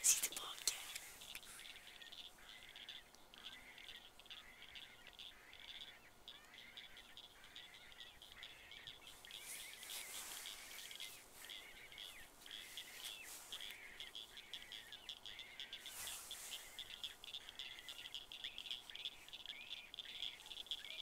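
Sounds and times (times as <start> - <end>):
small animals chirping: 0.0 - 21.0.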